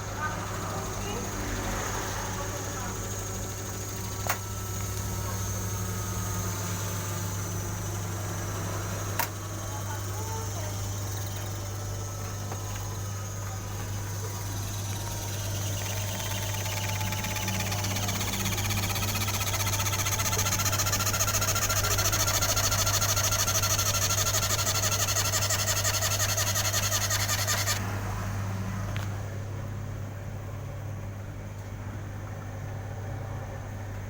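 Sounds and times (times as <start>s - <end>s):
electric motor running: 0.0s - 29.6s
steady low hum: 0.0s - 34.0s.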